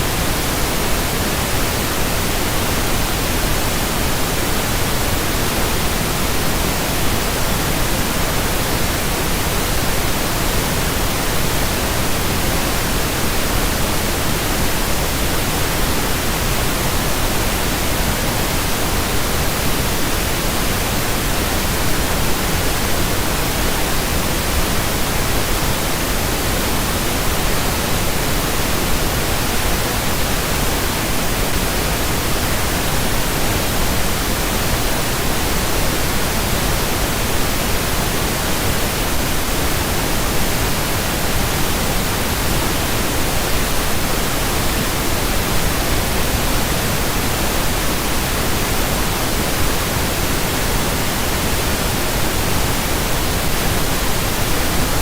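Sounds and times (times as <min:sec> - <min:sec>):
pink noise hiss: 0:00.0 - 0:55.0.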